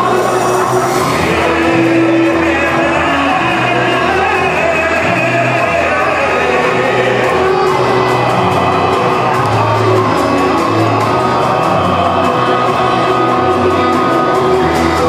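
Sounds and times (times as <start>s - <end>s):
recorded backing music with bass: 0.0s - 15.0s
man singing into a microphone: 0.4s - 15.0s.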